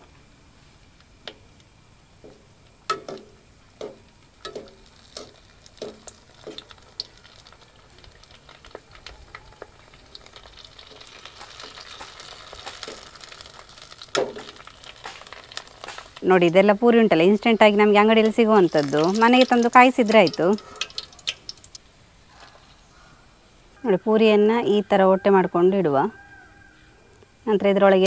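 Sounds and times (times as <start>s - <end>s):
oil hissing and sizzling: 0.0s - 23.7s.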